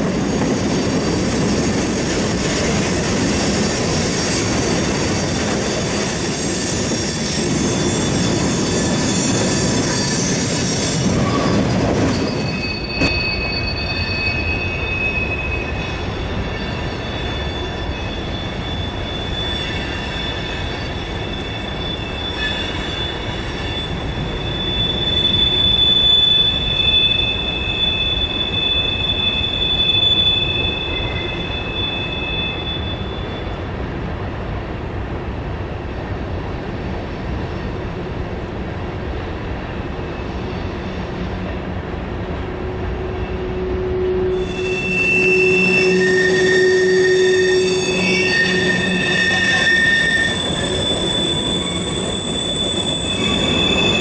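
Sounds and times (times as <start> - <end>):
train wheels rumbling on rails: 0.0 - 54.0
high-pitched wheel squeal: 0.6 - 33.6, 42.8 - 54.0.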